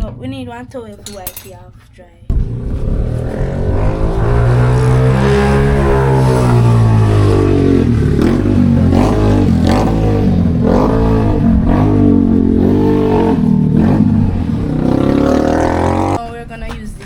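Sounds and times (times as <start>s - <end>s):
engine revving: 2.3s - 16.6s.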